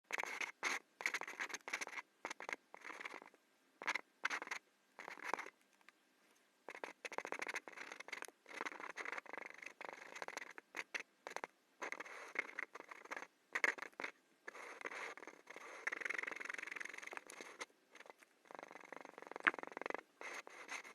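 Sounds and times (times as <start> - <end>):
pen scratching on paper: 0.1 - 5.5, 6.7 - 20.9.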